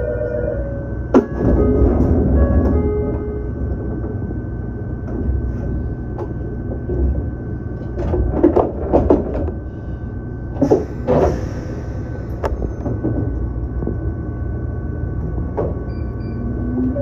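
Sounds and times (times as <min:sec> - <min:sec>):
train doors clunking shut: 0:00.0 - 0:14.1, 0:15.2 - 0:17.0
train equipment humming: 0:00.0 - 0:17.0.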